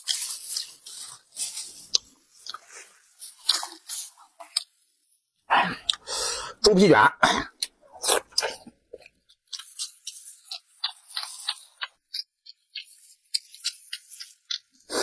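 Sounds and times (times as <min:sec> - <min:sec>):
mouth chewing clicks and smacks: 0:00.0 - 0:04.8, 0:07.5 - 0:15.0.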